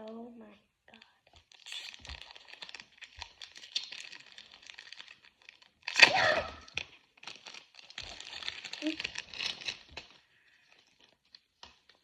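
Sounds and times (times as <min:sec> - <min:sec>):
foil wrapper crinkling and tearing: 0:01.0 - 0:12.0.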